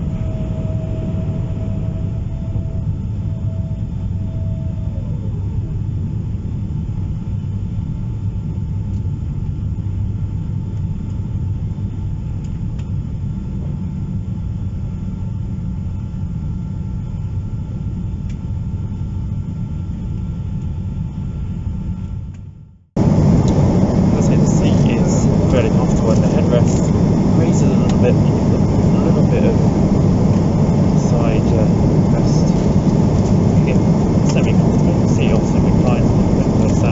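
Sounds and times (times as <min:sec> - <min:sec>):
faint steady whine: 0:00.0 - 0:36.9
jet engine and airflow rumble: 0:00.0 - 0:36.9.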